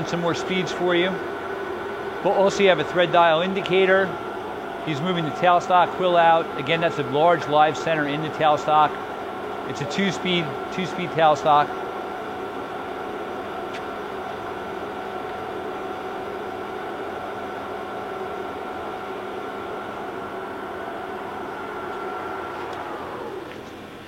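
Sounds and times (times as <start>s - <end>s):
lathe running with gear whine: 0.0s - 24.0s.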